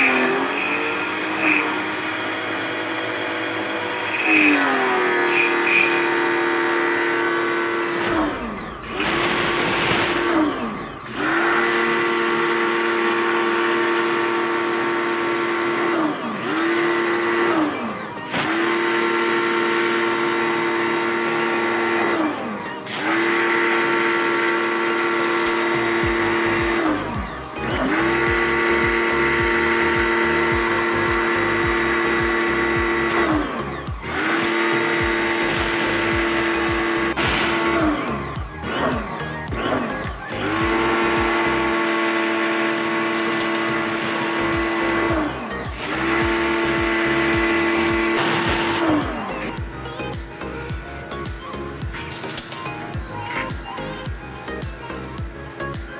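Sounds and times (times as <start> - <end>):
pressure washer motor whine: 0.0 - 55.9.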